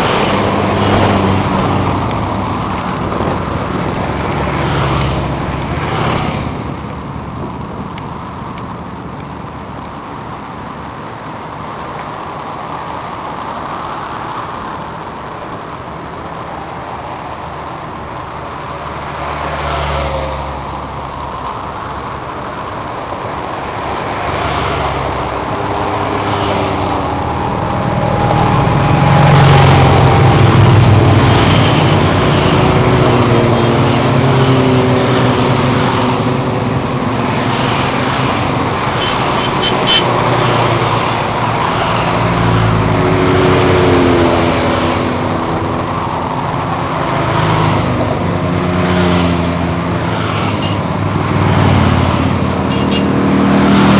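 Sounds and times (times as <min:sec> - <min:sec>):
group of motorcycle engines: 0:00.0 - 0:53.9.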